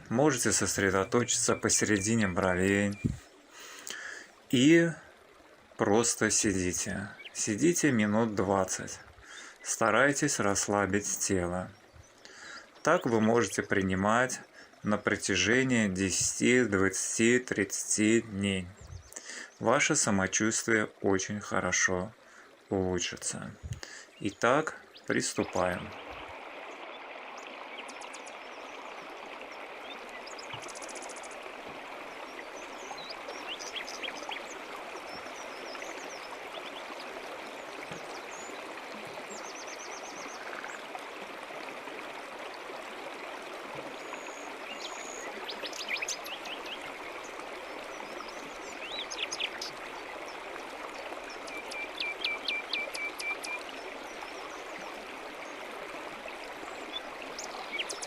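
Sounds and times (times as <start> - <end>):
small birds chirping: 0.0 - 4.6, 6.7 - 10.2, 10.8 - 15.9, 18.5 - 19.8, 23.3 - 41.0, 43.8 - 58.0
stream babbling: 0.0 - 58.0.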